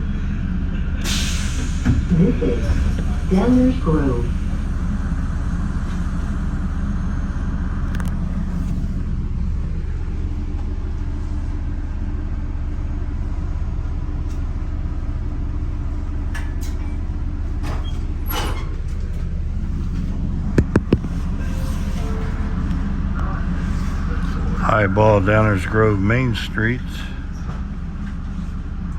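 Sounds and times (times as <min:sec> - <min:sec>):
train car hum and rumble: 0:00.0 - 0:28.9.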